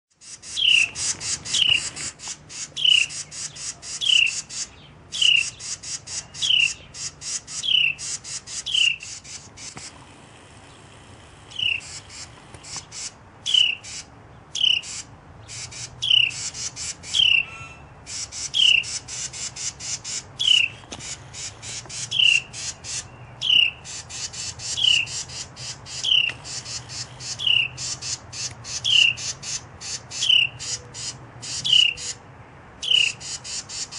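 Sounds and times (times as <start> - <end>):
wrens rattling alarm calls: 0.1 - 32.2, 32.8 - 33.9.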